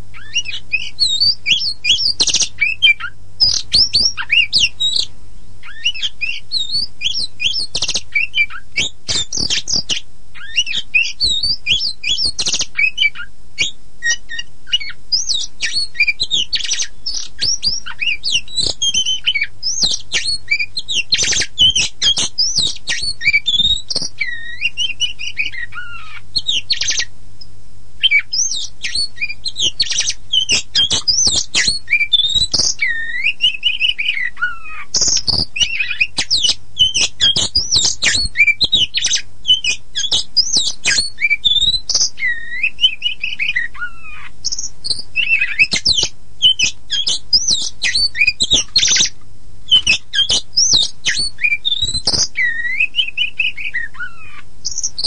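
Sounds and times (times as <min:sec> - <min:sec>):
faint low hum: 0:00.0 - 0:55.0
songbird singing: 0:00.0 - 0:55.0.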